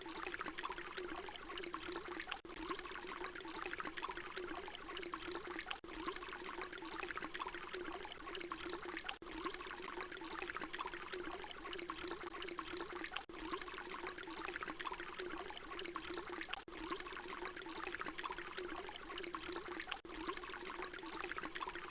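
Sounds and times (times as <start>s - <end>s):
water pouring and splashing: 0.0s - 21.9s.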